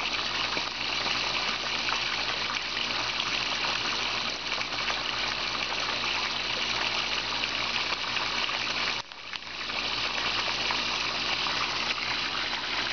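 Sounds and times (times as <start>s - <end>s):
water gushing into pond: 0.0s - 12.9s.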